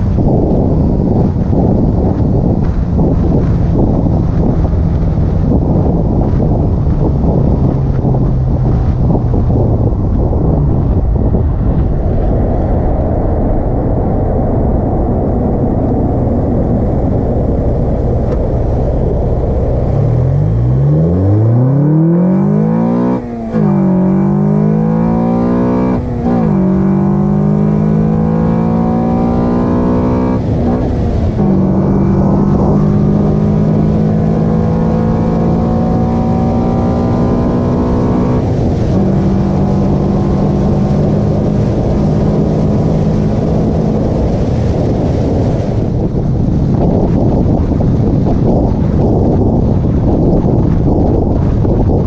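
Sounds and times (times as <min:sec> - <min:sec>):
car engine accelerating: 0:00.0 - 0:52.0
road and wind noise: 0:00.0 - 0:52.0.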